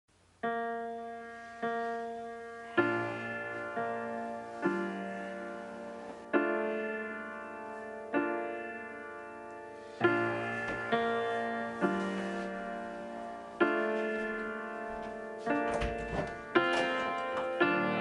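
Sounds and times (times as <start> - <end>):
slow piano chords: 0.1 - 18.0.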